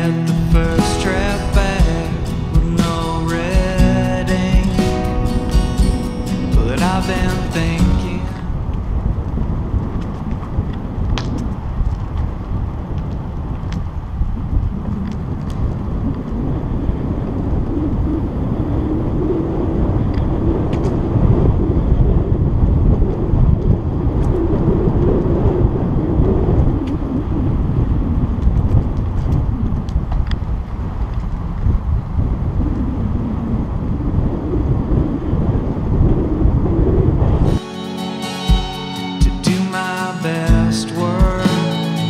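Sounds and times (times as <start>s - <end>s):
wind rumbling on microphone: 0.0s - 37.6s.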